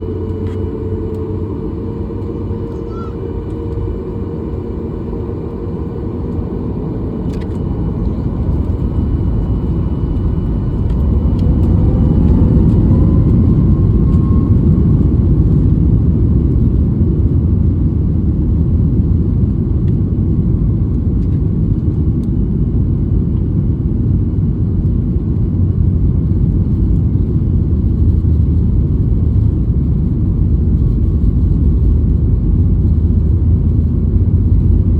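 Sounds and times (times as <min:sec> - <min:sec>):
jet engine rumble: 0:00.0 - 0:34.9
jet engine whine: 0:00.0 - 0:34.9.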